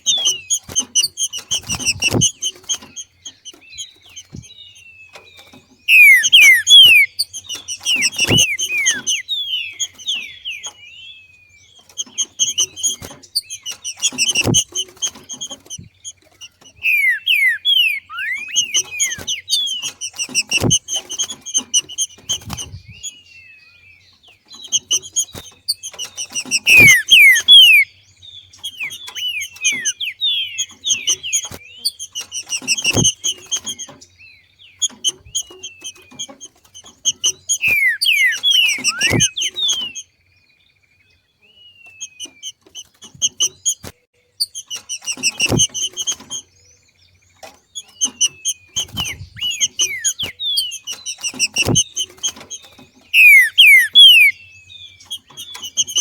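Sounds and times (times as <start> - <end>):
bird chattering call: 0.0 - 10.8, 11.7 - 23.2, 24.5 - 34.0, 34.7 - 40.1, 47.7 - 56.0.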